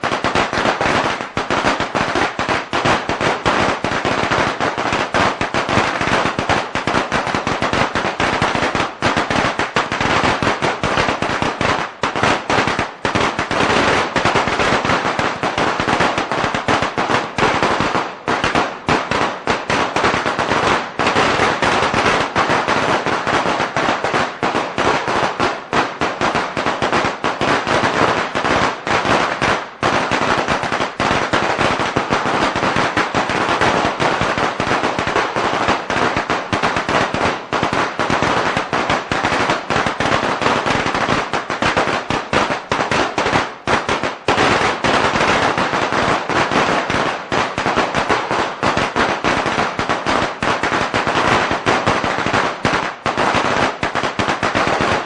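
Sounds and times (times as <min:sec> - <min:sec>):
firecrackers popping rapidly: 0:00.0 - 0:55.0.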